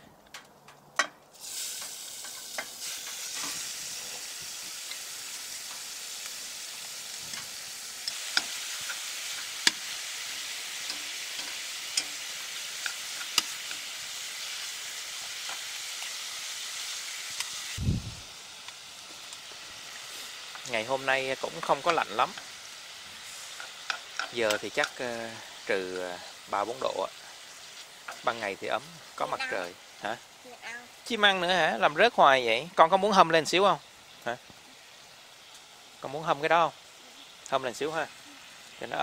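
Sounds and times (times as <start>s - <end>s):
meat sizzling in oil: 1.3s - 39.0s.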